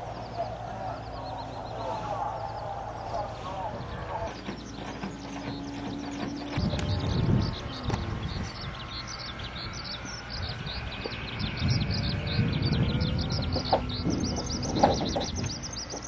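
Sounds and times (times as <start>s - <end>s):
small birds chirping: 0.0s - 16.0s
low rumbling and knocking: 2.4s - 16.0s.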